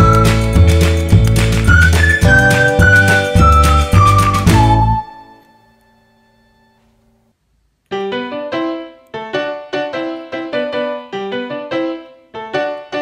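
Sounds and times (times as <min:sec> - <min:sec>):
bouncy keyboard tune: 0:00.0 - 0:06.0, 0:07.9 - 0:13.0.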